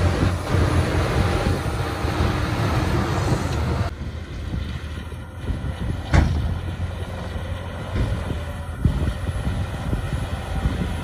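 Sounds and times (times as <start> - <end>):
bulldozer engine running hard: 0.0 - 11.0.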